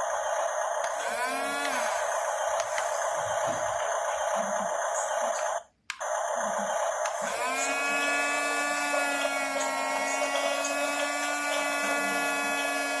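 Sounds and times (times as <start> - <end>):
electric motors whining: 0.0 - 5.6, 6.5 - 13.0.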